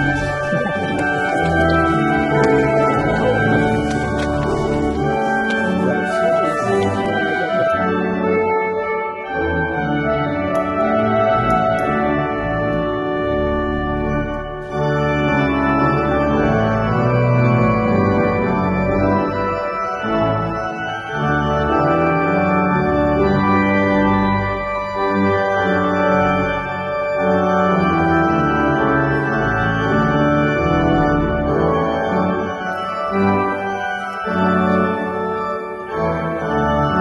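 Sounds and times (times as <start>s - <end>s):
organ playing sustained chords: 0.0s - 37.0s.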